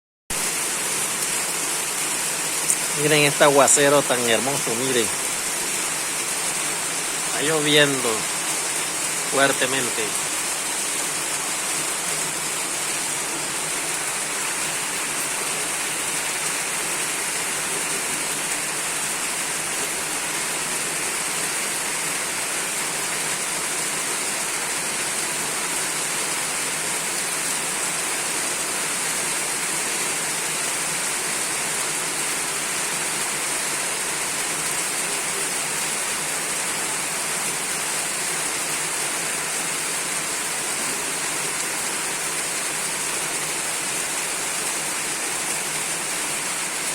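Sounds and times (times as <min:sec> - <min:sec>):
heavy rain pouring: 0:00.3 - 0:46.9.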